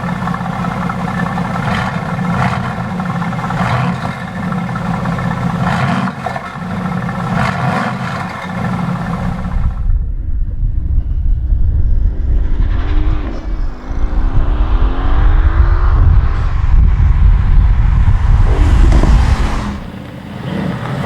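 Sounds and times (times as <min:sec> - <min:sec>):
car engine revving: 0:00.0 - 0:09.9, 0:12.5 - 0:21.0
deep low exhaust rumble: 0:00.0 - 0:20.0.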